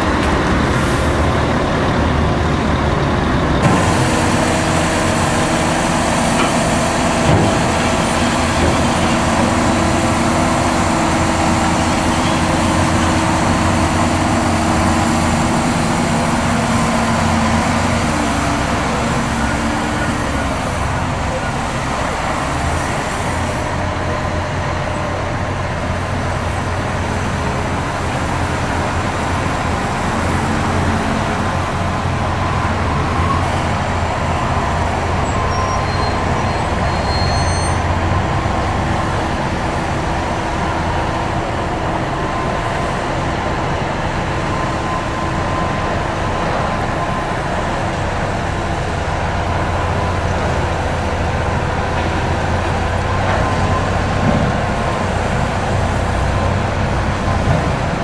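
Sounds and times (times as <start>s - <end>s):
diesel trucks and machinery: 0.0s - 58.0s
motorway traffic: 0.0s - 58.0s.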